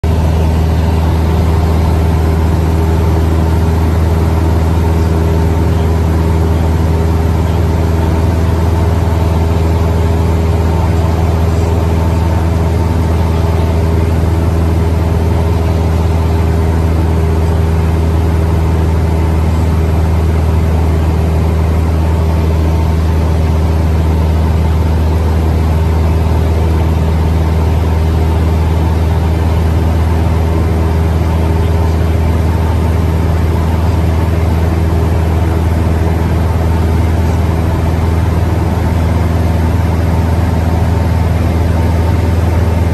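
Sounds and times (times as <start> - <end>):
propeller airplane engine droning: 0.0 - 42.9.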